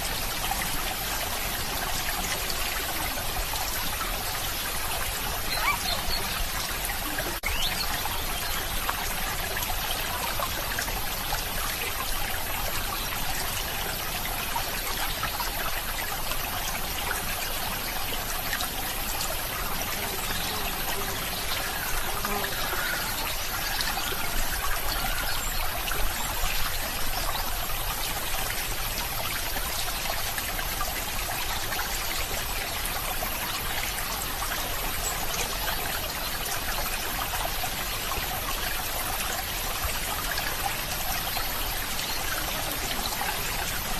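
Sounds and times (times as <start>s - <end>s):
water trickling in stream: 0.0s - 43.9s.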